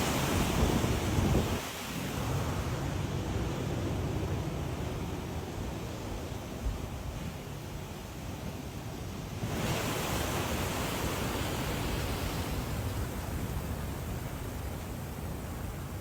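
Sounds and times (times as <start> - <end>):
surf washing up beach: 0.0 - 16.0
wind: 0.0 - 16.0.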